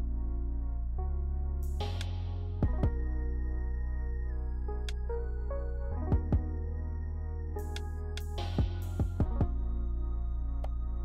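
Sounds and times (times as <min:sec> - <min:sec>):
soft ambient synth music: 0:00.0 - 0:11.0.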